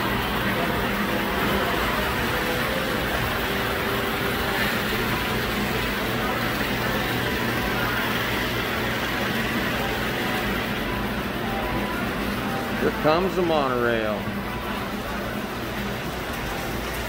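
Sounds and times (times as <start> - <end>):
model train running: 0.0 - 17.0.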